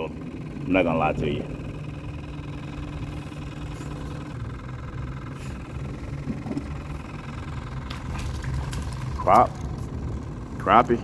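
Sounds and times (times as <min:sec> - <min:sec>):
small electric motor humming: 0:00.0 - 0:11.0.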